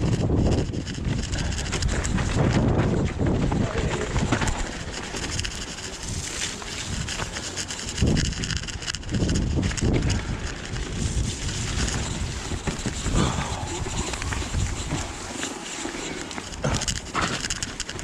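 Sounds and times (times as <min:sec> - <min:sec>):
mountain bike rattling on trail: 0:00.0 - 0:18.0
wind buffeting microphone: 0:00.0 - 0:18.0.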